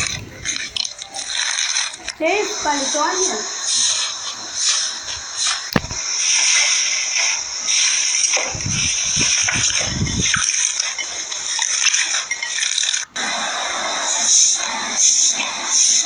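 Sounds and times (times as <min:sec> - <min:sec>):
slime squelching: 0:00.0 - 0:16.0.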